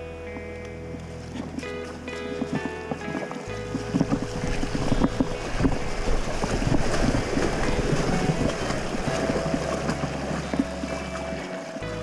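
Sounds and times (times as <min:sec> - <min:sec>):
background music with bass: 0:00.0 - 0:12.0
wind buffeting microphone: 0:00.3 - 0:12.0
rushing river water: 0:00.6 - 0:12.0.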